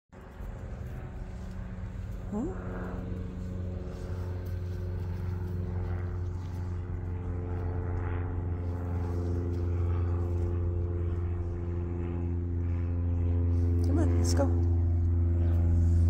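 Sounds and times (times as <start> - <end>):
machine humming: 0.2 - 16.0.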